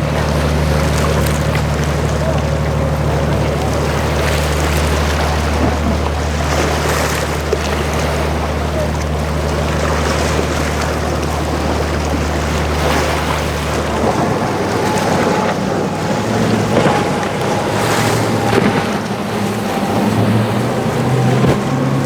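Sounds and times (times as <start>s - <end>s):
motorboat engines running: 0.0s - 22.0s
waves washing: 0.0s - 22.0s
wind buffeting microphone: 0.0s - 22.0s.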